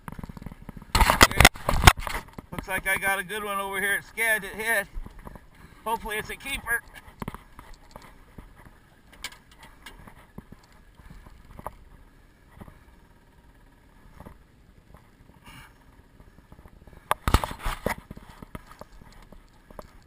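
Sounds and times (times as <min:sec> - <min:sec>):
light wind: 0:00.0 - 0:20.0
water noise around boat: 0:00.0 - 0:20.0.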